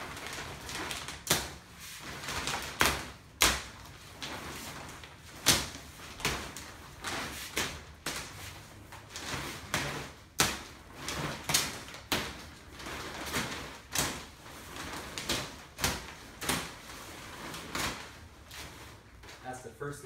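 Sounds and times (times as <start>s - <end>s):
plastic sheeting crinkling: 0.0s - 19.9s.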